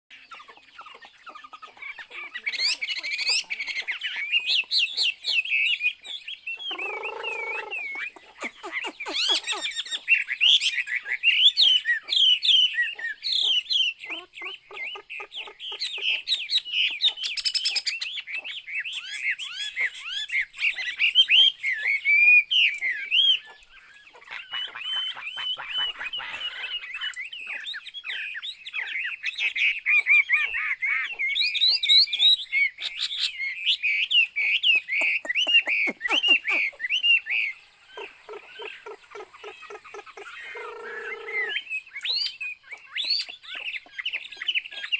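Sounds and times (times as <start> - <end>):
bird singing whistled trills: 0.1 - 44.9.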